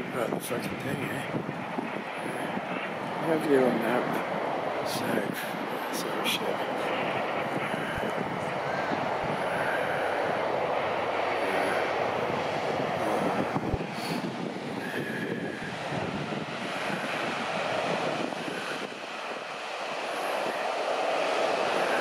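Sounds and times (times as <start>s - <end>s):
boat engine rumble: 0.0s - 22.0s
boat wake: 1.9s - 22.0s.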